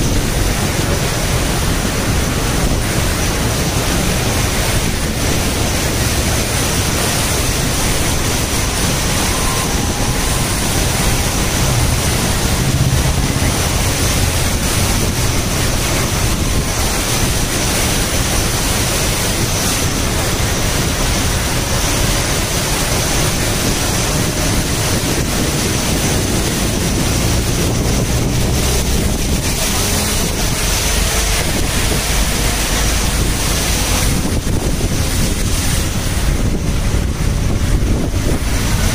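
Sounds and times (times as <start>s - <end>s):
low engine hum: 0.0s - 38.9s
water rushing under vehicle: 0.0s - 38.9s
wind buffeting microphone: 0.0s - 38.9s.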